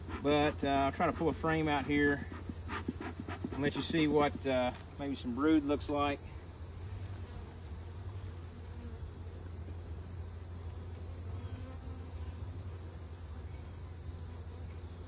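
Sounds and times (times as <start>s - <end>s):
honeybees humming: 0.0s - 15.0s
insects chirring: 0.0s - 15.0s.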